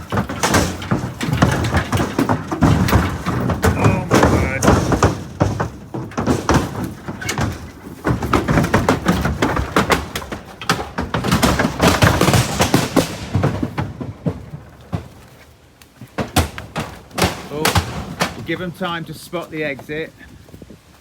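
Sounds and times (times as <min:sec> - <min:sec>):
knocking and clattering in trailer: 0:00.0 - 0:20.8.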